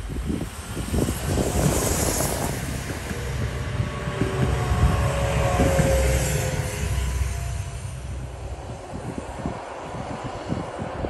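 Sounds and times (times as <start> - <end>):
steady whine: 0.0 - 11.0
train engine and wheels rumble: 0.0 - 11.0.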